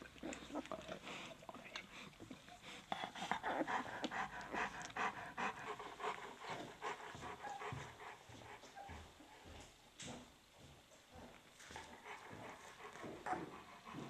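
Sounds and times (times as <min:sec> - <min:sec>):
dog panting rapidly: 0:01.0 - 0:09.8, 0:10.6 - 0:14.0.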